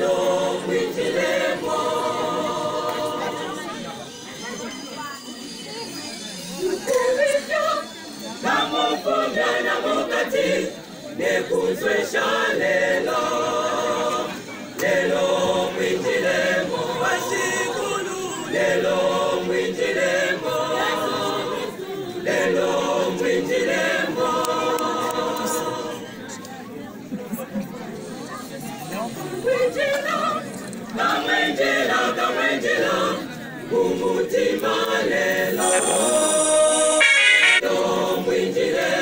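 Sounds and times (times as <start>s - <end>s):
choir singing a hymn a cappella: 0.0s - 4.1s, 6.6s - 26.3s, 29.1s - 39.0s.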